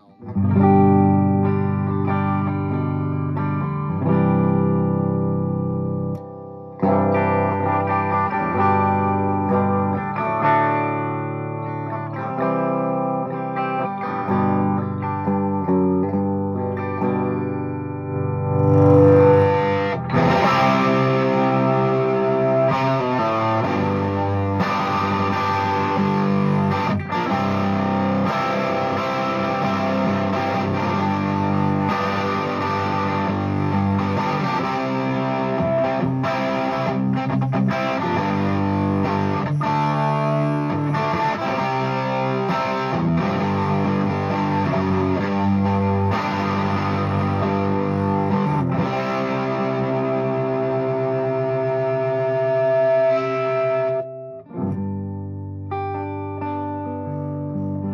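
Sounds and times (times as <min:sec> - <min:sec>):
electric guitar chords strummed: 0:00.0 - 0:57.9.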